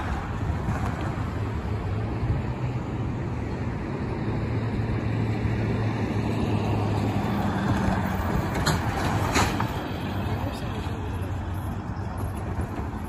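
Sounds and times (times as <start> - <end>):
engine hum: 0.0 - 13.0
vehicles driving over railroad tracks: 0.0 - 13.0.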